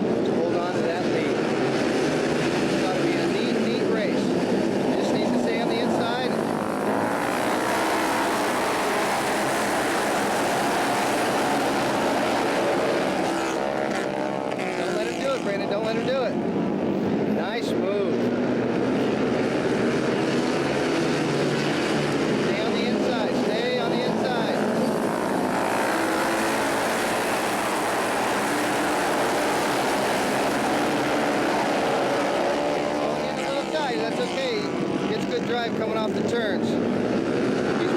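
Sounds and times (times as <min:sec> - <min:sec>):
racing motorcycle engines droning: 0:00.0 - 0:37.9.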